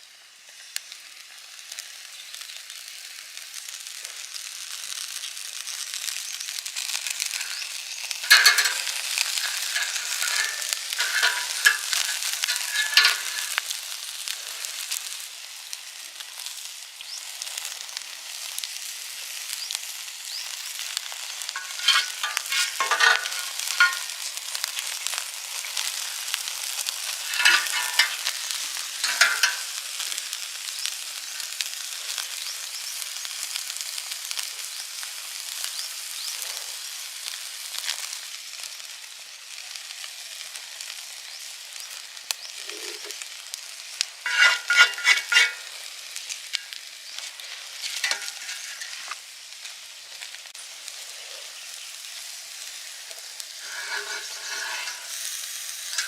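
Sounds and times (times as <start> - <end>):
steak sizzling: 0.0 - 56.0
fire crackling: 0.8 - 56.0.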